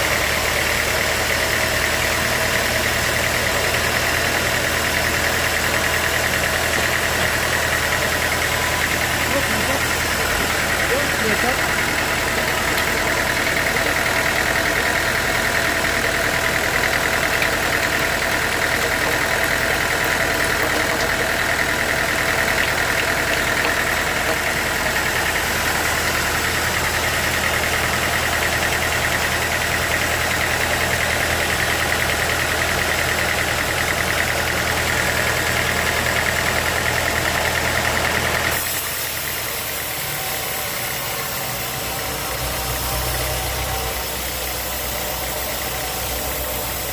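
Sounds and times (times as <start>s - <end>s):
sawmill machinery humming and whining: 0.0s - 46.9s.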